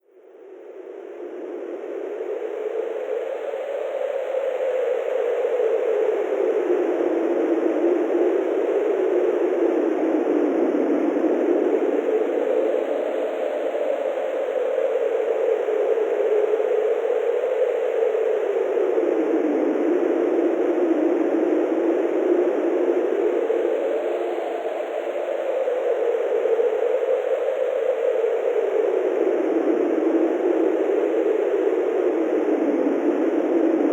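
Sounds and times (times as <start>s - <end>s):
synthesized wind howling softly: 0.2s - 33.9s.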